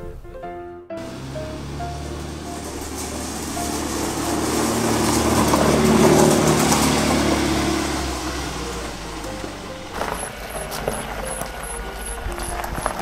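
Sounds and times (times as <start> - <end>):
car engine passing by: 1.0 - 13.0.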